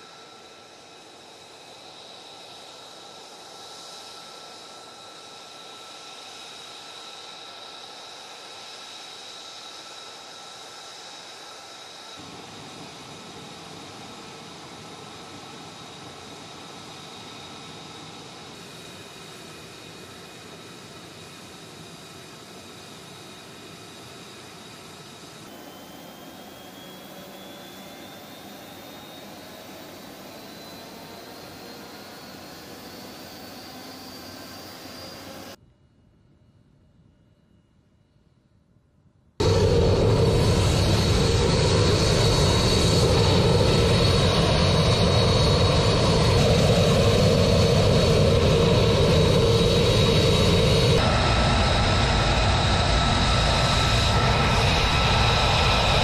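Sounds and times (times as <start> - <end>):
jet engine idling: 0.0 - 35.6, 39.4 - 56.0.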